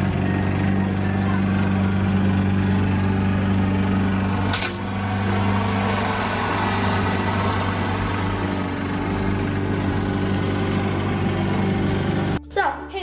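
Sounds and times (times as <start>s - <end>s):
lawn mower engine running: 0.0s - 12.4s.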